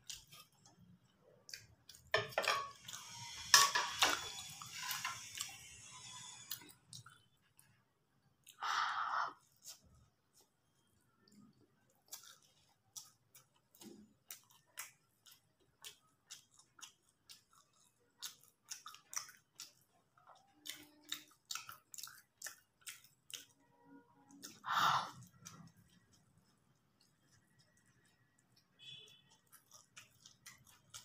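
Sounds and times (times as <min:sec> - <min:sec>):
chewing noodles: 0:00.0 - 0:07.8, 0:09.2 - 0:31.0.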